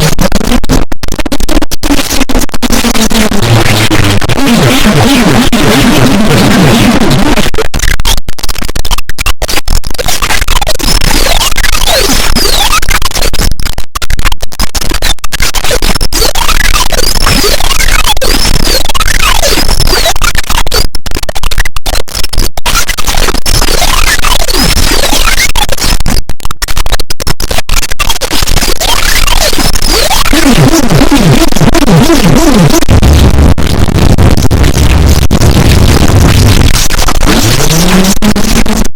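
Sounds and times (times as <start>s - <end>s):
harsh noise music static: 0.0s - 38.9s.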